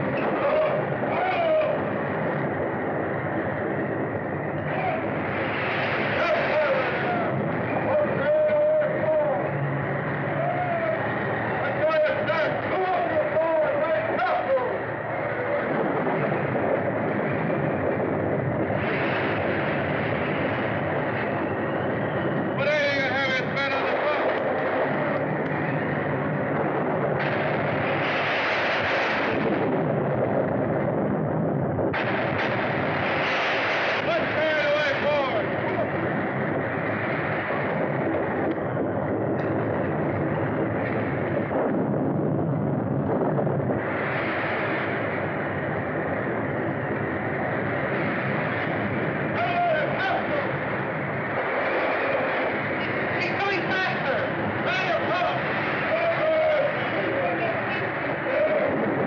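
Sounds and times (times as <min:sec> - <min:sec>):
low rumble: 0:00.0 - 0:59.0
steady rushing noise: 0:00.0 - 0:59.0.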